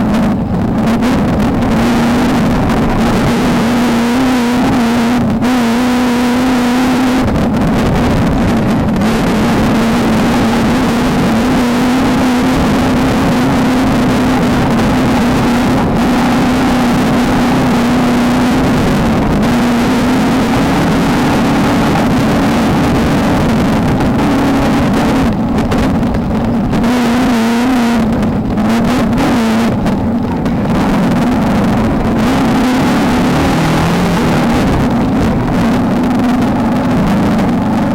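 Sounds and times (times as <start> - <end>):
constant noisy rush: 0.0 - 37.9
race car engine running hard: 0.0 - 37.9.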